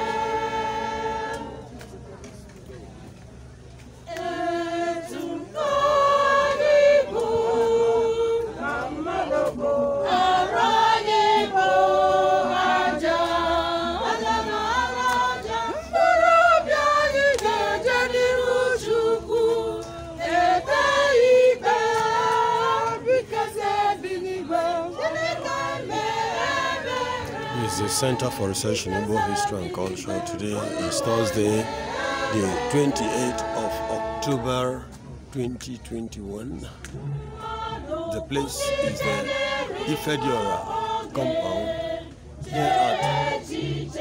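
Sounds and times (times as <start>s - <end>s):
choir singing: 0.0s - 1.7s, 4.1s - 35.0s, 37.0s - 44.0s.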